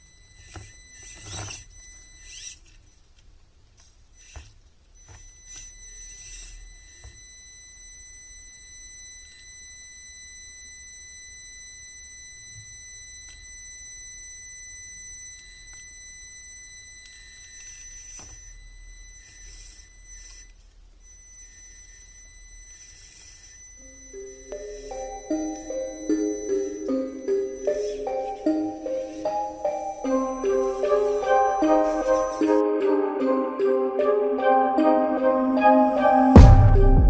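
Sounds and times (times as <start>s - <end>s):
electric motor whine: 0.0s - 37.0s.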